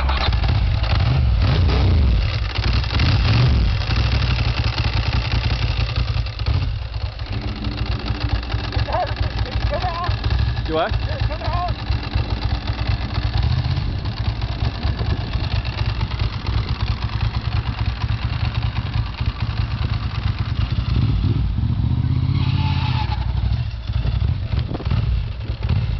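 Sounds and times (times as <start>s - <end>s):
motorcycle engine: 0.0s - 25.9s.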